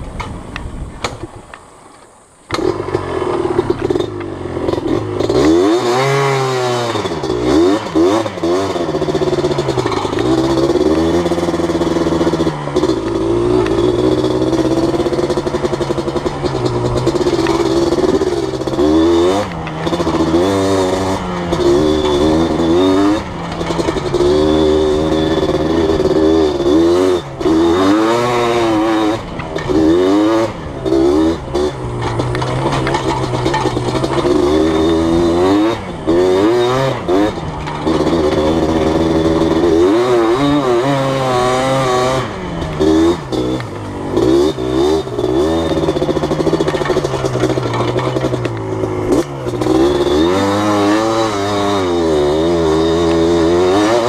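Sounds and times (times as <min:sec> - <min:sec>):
atv engine revving: 0:02.5 - 0:54.0.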